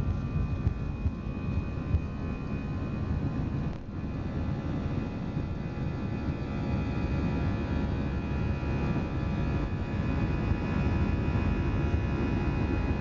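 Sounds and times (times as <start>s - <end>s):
jet engine rush in cabin: 0.0s - 13.0s.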